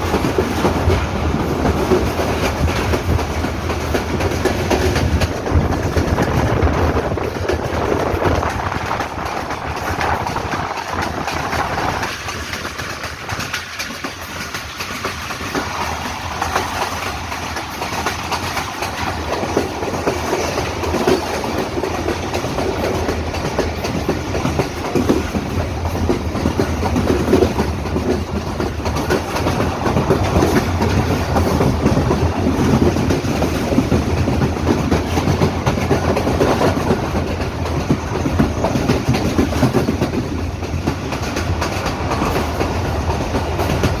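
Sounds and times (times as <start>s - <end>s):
train wheels clattering: 0.0s - 44.0s.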